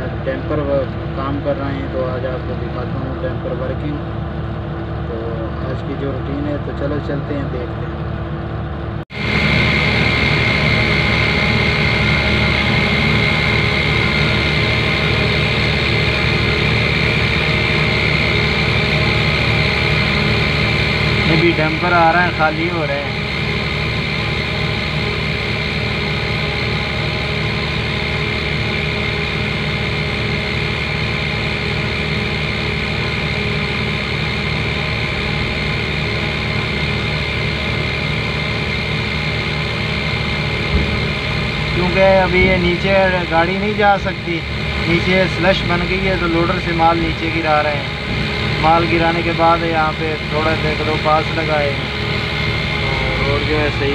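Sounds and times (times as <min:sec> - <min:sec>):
diesel engine running under load: 0:00.0 - 0:53.9
hydraulic high whine: 0:00.0 - 0:53.9.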